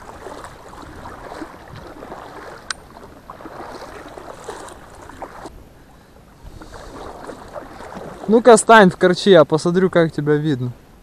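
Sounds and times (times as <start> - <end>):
water sloshing around a boat: 0.0 - 9.4.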